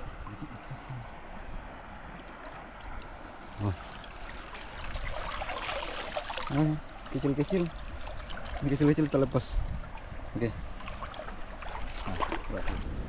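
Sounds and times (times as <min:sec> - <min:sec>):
river water running: 0:00.0 - 0:13.0
water splashing and dripping: 0:01.8 - 0:12.8.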